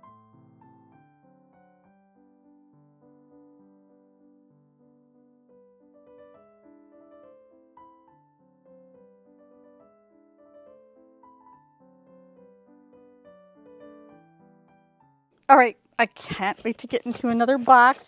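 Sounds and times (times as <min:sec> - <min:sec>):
soft piano music: 0:00.0 - 0:15.4.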